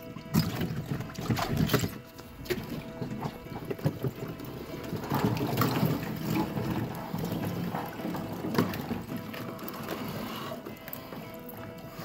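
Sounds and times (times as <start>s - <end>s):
background music: 0.0s - 12.0s
water sloshing and splashing: 0.0s - 12.0s.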